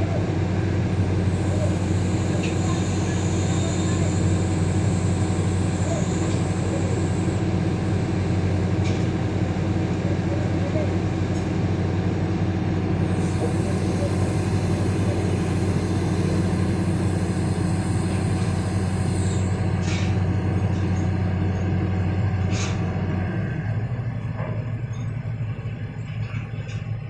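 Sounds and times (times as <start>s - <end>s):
diesel engine humming: 0.0s - 27.0s.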